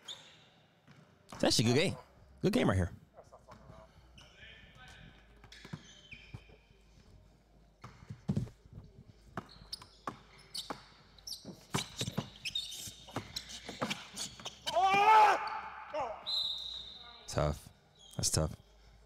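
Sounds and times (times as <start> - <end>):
sneakers squeaking on floor: 0.0 - 1.8, 3.5 - 17.3.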